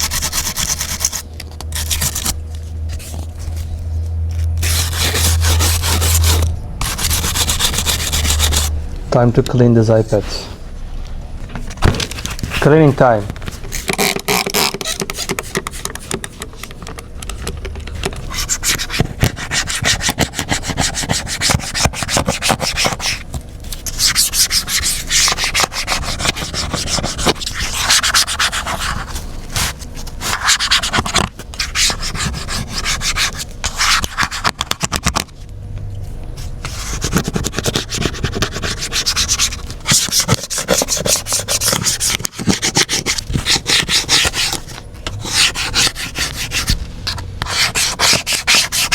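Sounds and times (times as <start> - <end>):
scrubbing on tablet casing: 4.4 - 8.7, 11.9 - 35.3, 36.4 - 48.9.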